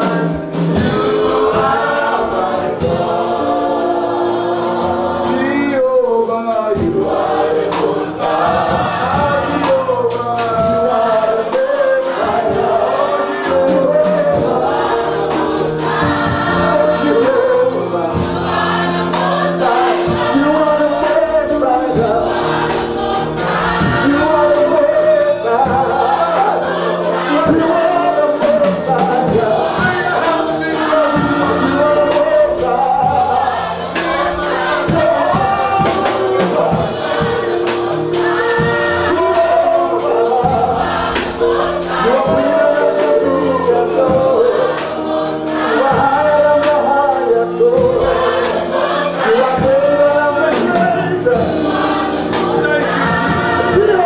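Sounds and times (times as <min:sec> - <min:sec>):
congregation singing a worship song: 0:00.0 - 0:54.0.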